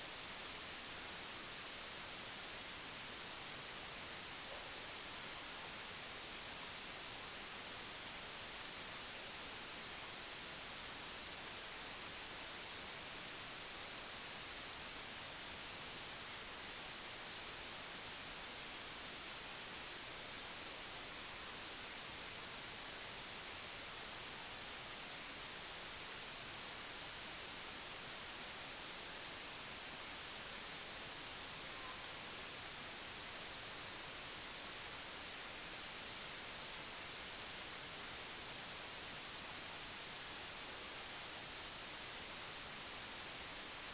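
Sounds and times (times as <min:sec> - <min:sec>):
steady static hiss: 0:00.0 - 0:43.9.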